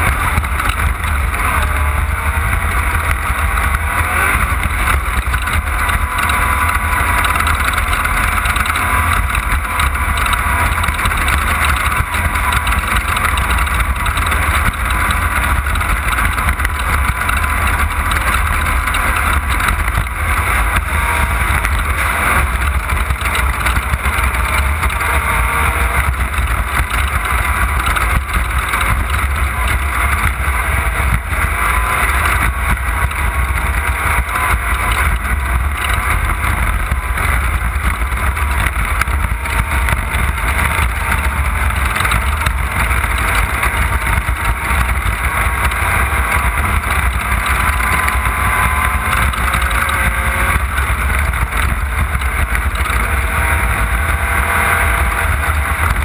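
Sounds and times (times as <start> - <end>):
race car engine drone: 0.0 - 56.0.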